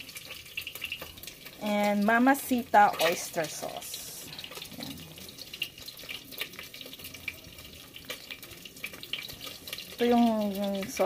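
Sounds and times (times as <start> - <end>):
fish frying in hot oil: 0.0 - 11.0.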